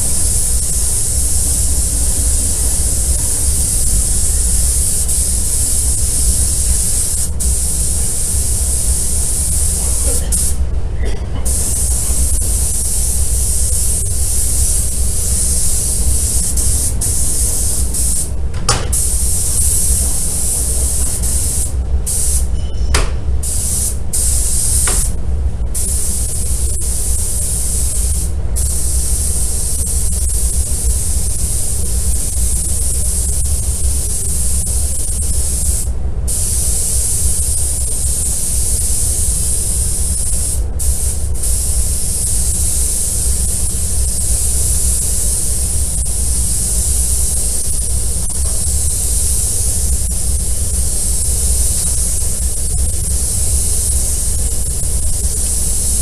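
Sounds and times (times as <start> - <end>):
spray gun hissing: 0.0 - 10.7, 11.4 - 22.5, 23.4 - 56.0.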